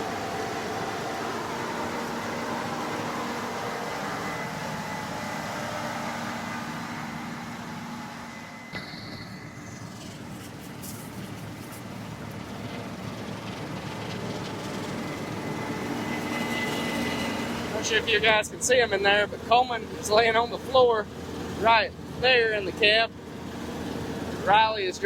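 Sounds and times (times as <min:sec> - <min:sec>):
combine harvester drone: 0:00.0 - 0:25.0.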